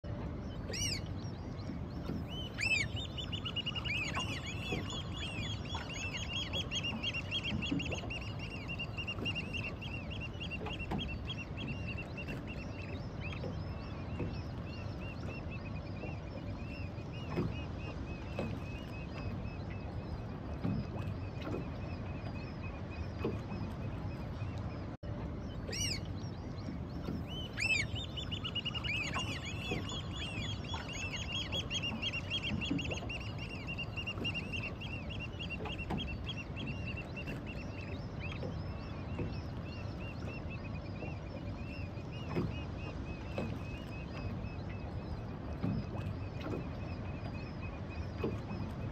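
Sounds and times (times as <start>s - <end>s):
gulls calling: 0.0s - 48.9s
low background rumble: 0.0s - 48.9s.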